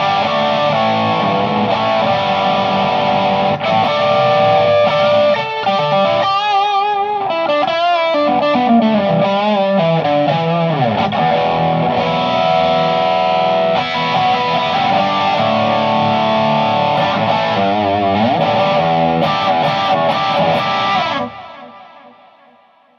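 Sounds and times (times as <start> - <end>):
distorted electric guitar: 0.0 - 22.9.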